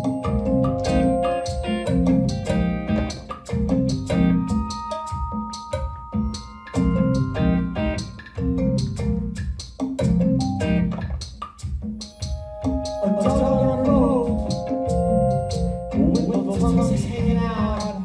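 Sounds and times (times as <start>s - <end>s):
live band music: 0.0s - 18.0s.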